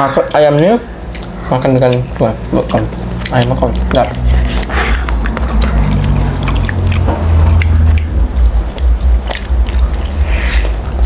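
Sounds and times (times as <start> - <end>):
crunchy chewing: 0.6 - 11.0
low hum: 0.8 - 11.0.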